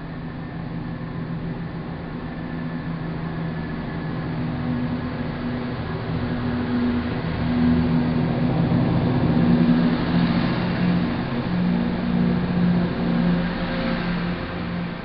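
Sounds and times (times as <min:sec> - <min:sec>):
train diesel engine drone: 0:00.0 - 0:15.0
train wheel and rail noise: 0:00.0 - 0:15.0.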